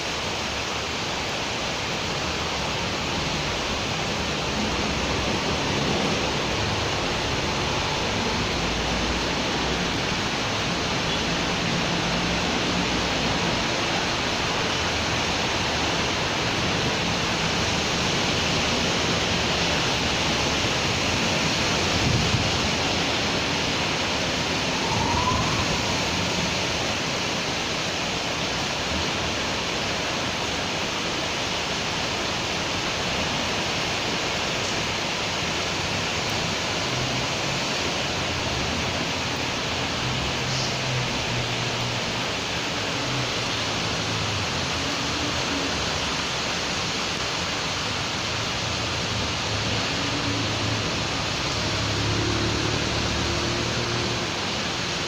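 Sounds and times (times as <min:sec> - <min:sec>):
passing vehicles rumble: 0:00.0 - 0:55.0
steady rain hiss: 0:00.0 - 0:55.0.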